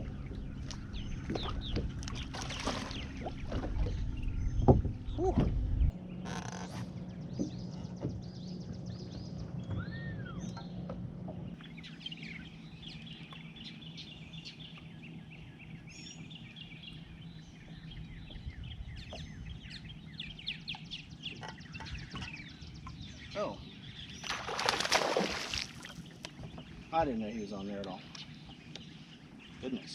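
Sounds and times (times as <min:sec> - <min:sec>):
low steady hum: 0:00.0 - 0:29.9
small birds chirping: 0:00.0 - 0:29.9.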